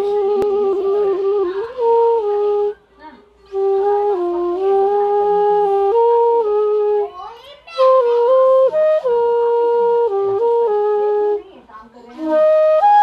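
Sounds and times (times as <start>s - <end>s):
bamboo flute slow melody: 0.0s - 13.0s.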